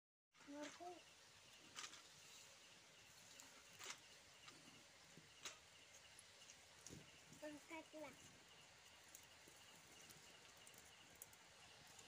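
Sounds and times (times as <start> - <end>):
faint hiss: 0.4 - 12.0.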